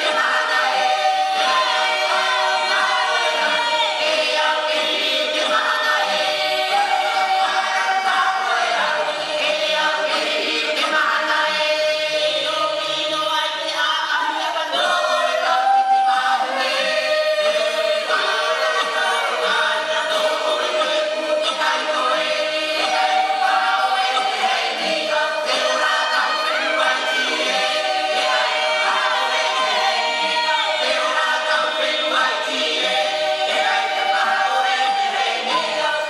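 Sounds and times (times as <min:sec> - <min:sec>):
choir singing a cappella: 0:00.0 - 0:36.0.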